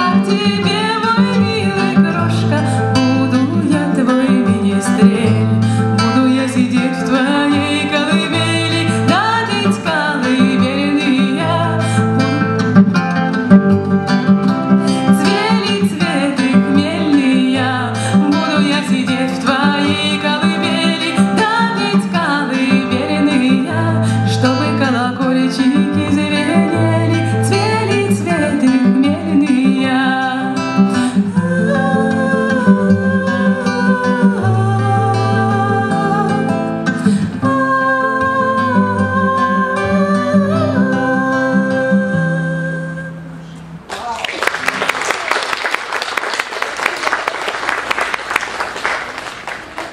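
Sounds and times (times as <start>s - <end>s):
woman singing gentle song: 0.0s - 12.6s, 15.1s - 36.6s, 37.2s - 43.3s
strummed acoustic guitar: 0.0s - 43.8s.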